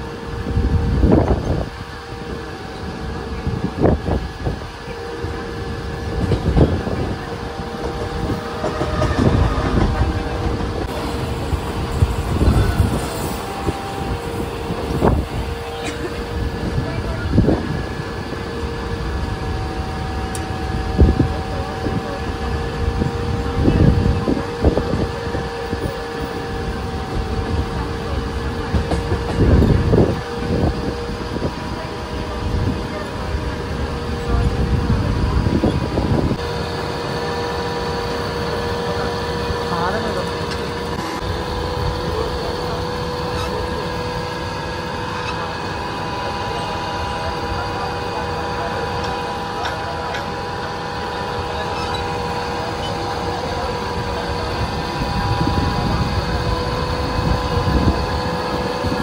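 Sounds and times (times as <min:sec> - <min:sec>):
electric train rumble and whine: 0:00.0 - 0:59.0.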